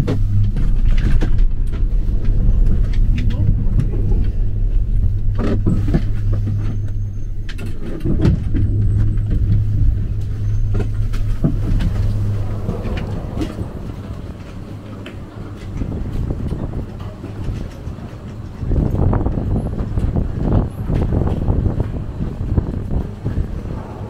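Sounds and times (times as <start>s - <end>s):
cabins clunking and rattling: 0.0s - 22.0s
gondola machinery humming: 0.0s - 24.0s.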